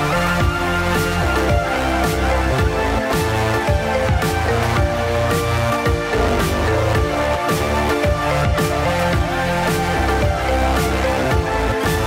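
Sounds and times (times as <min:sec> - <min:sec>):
electronic background music: 0:00.0 - 0:12.0.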